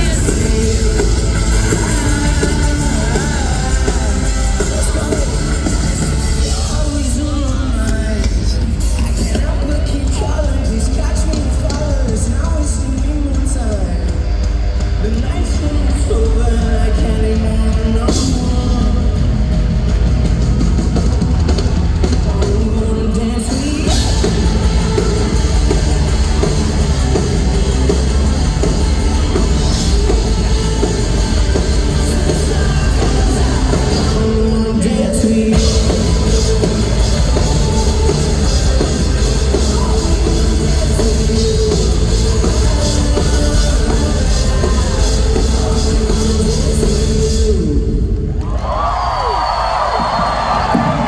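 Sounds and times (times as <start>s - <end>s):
lead vocal singing: 0.0s - 48.4s
live pop-rock band playing: 0.0s - 48.4s.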